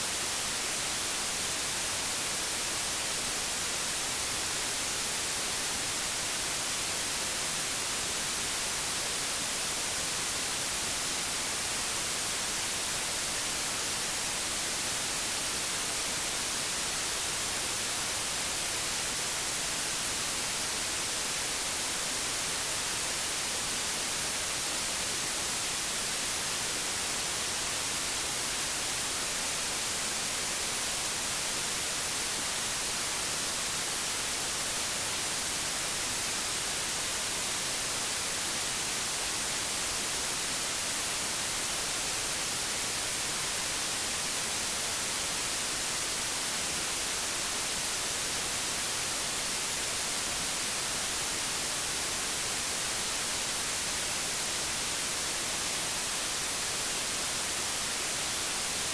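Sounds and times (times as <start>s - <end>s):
television static hiss: 0.0s - 58.9s.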